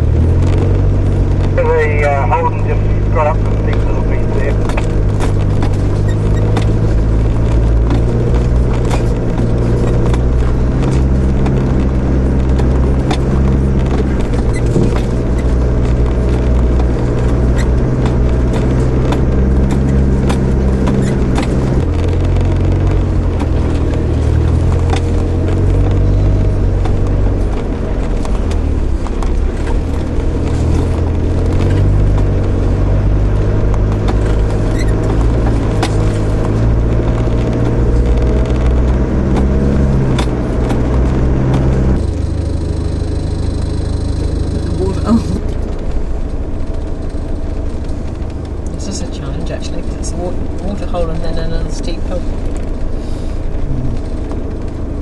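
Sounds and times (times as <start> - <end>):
vehicle knocks and rattles: 0.0 - 2.5, 3.2 - 55.0
vehicle engine at low revs: 0.0 - 55.0.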